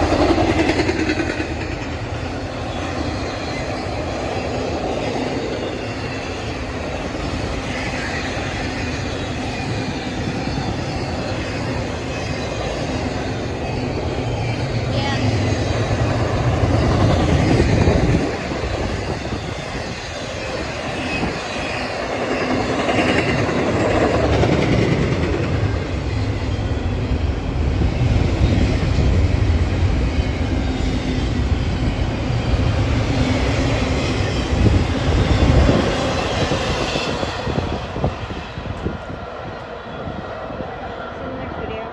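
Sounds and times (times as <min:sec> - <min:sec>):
train wheels rumbling on rails: 0:00.0 - 0:41.9.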